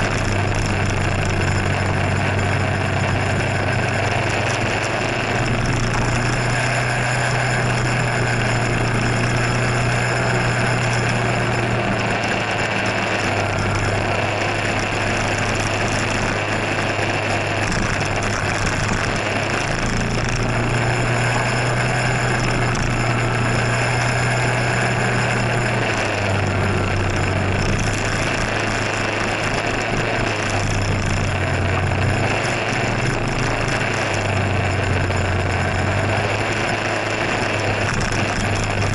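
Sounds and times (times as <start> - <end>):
rushing noise: 0.0 - 38.9
scooter engine running: 0.0 - 38.9.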